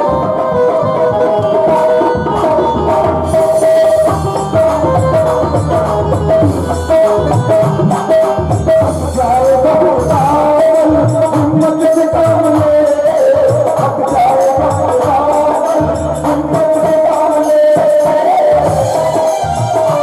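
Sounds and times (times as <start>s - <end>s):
devotional song melody: 0.0s - 20.0s
hand drums: 0.0s - 20.0s
small rattling percussion: 0.0s - 20.0s.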